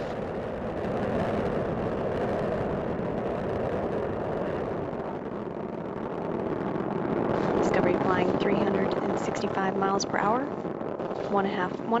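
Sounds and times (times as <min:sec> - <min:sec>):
rocket engines rumbling: 0:00.0 - 0:12.0.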